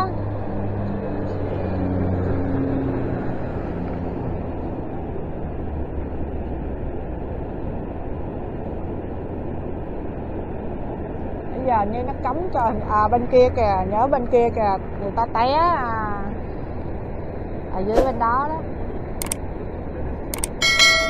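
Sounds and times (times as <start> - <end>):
low rushing roar: 0.0 - 21.0
vehicle engine humming: 0.0 - 21.0.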